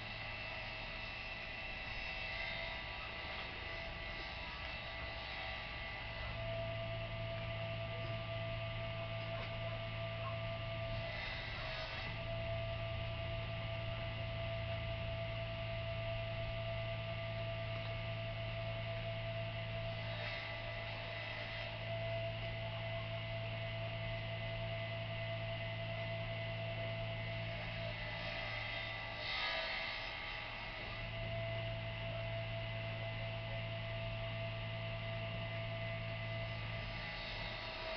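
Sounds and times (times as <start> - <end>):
electrical hum: 0.0 - 37.9.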